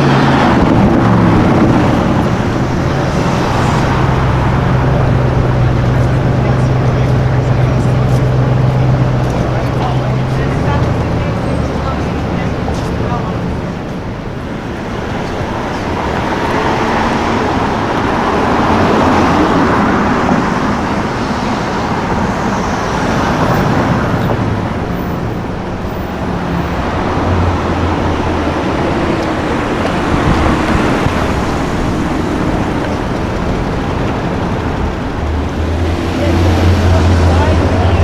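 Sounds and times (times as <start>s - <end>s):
cars driving past: 0.0s - 38.0s.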